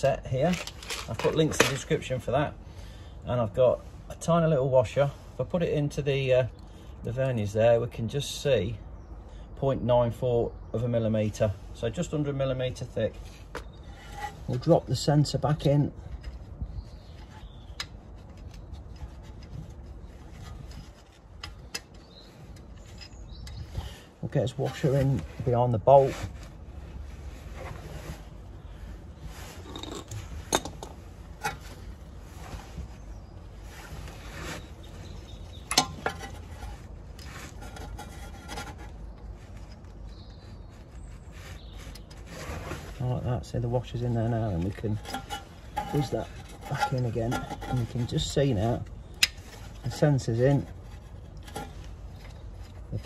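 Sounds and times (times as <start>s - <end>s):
glove rubbing and scraping metal: 0.4s - 2.3s, 11.4s - 53.0s.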